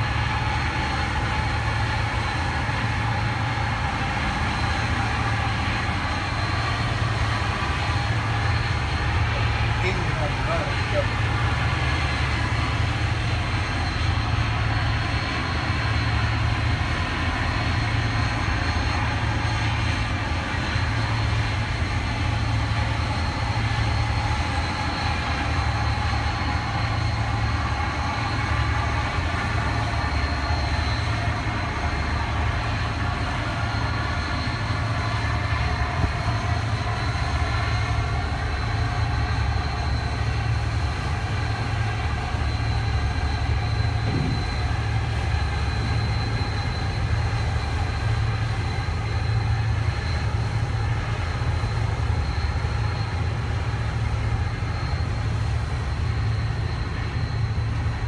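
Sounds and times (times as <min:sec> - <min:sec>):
ship engine drone: 0:00.0 - 0:58.0
wind: 0:00.0 - 0:58.0.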